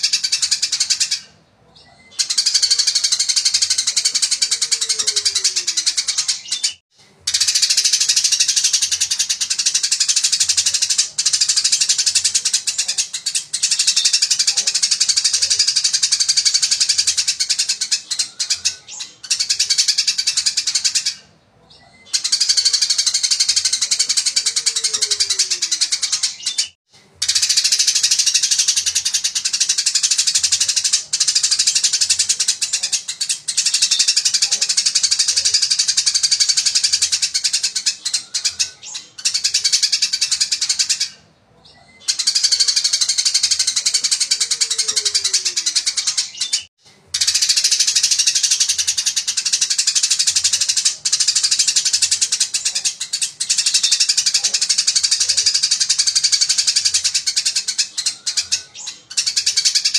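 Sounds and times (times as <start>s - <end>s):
sparrow chirping: 0.0s - 59.9s.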